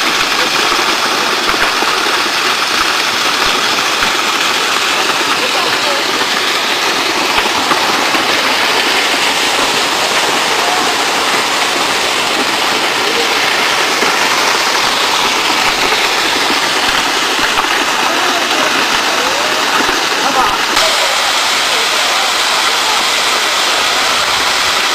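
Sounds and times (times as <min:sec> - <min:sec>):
debris flow rushing down slope: 0:00.0 - 0:24.9.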